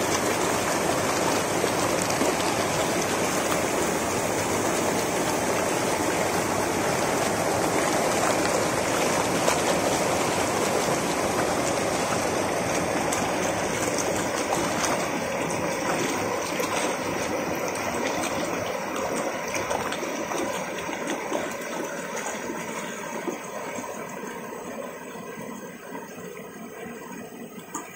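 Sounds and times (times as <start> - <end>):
water rushing over rocks: 0.0 - 27.9.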